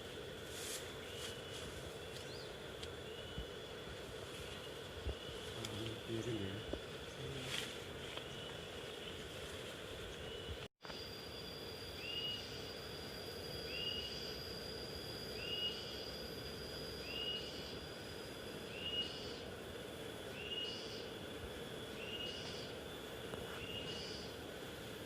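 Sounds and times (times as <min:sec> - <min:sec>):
thin steady high tone: 0:00.0 - 0:25.0.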